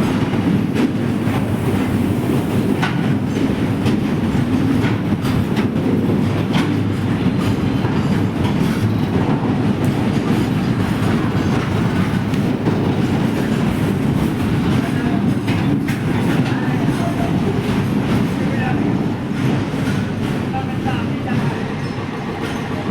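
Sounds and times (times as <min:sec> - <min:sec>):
train rumbling with wheel clatter: 0:00.0 - 0:22.9.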